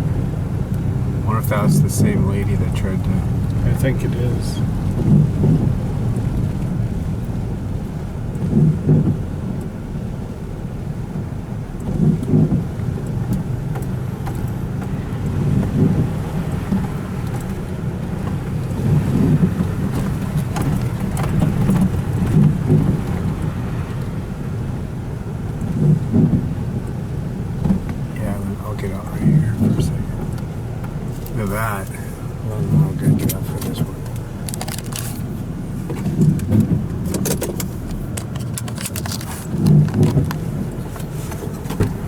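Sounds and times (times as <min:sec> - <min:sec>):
vehicle rumble inside cabin: 0:00.0 - 0:42.0.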